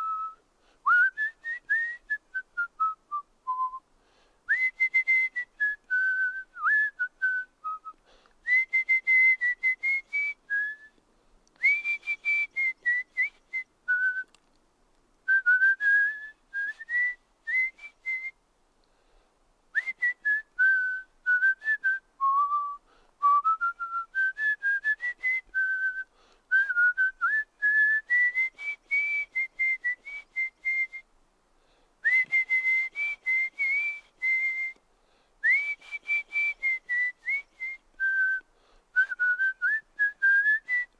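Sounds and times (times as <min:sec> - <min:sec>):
person whistling: 0:00.0 - 0:03.8, 0:04.5 - 0:11.0, 0:11.6 - 0:14.4, 0:15.3 - 0:18.4, 0:19.8 - 0:31.0, 0:32.0 - 0:34.8, 0:35.4 - 0:40.9.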